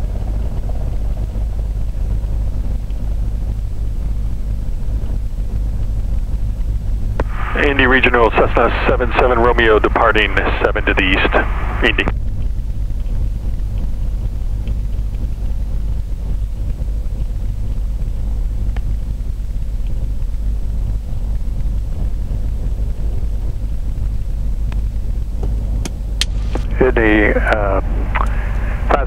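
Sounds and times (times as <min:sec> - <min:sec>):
piston aircraft engine droning: 0:00.0 - 0:29.0.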